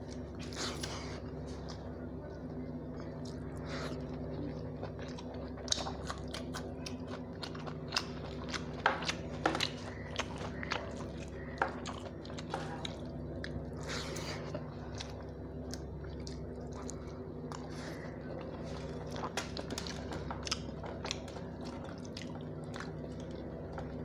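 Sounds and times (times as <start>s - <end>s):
steady low hum: 0.0s - 24.0s
wet chewing: 0.0s - 24.0s.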